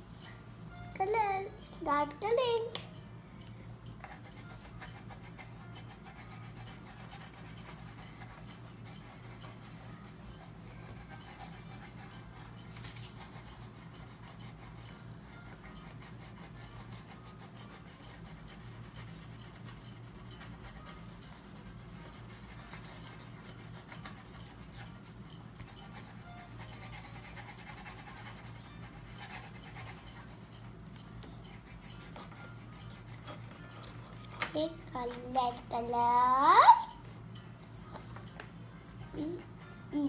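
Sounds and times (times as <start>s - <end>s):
pencils scratching on paper: 3.9s - 40.0s.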